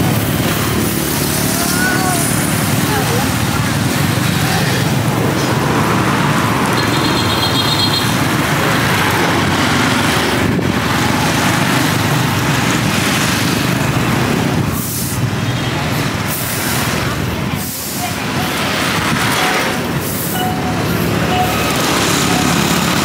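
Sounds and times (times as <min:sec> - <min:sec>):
motorbikes passing: 0:00.0 - 0:23.0
street traffic noise: 0:00.0 - 0:23.0.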